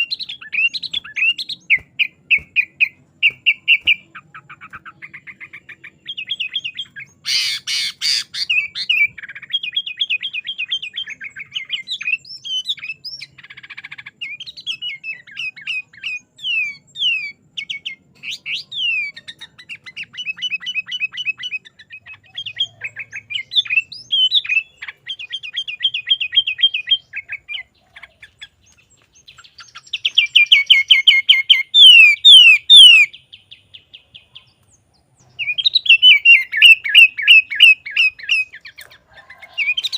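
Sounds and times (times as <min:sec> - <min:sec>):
bulbul singing rapid trills: 0:00.0 - 0:39.9.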